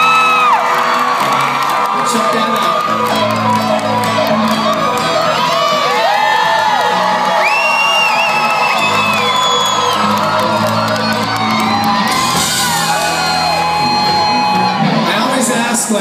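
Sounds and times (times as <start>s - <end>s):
audience cheering and screaming: 0.0s - 16.0s
rock band playing: 0.0s - 16.0s.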